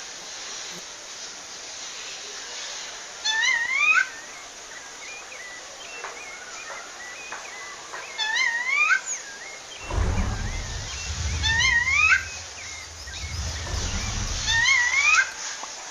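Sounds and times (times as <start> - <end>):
background hiss: 0.0 - 15.9.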